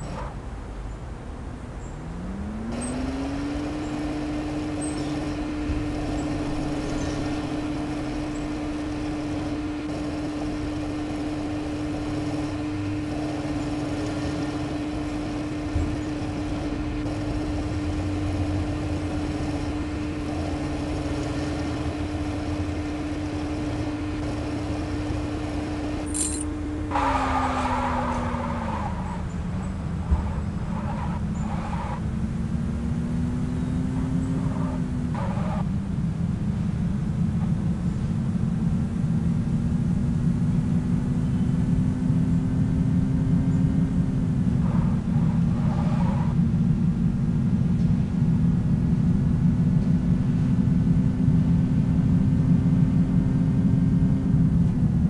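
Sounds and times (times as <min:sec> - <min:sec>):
motor vehicle engine running: 0:00.0 - 0:55.0.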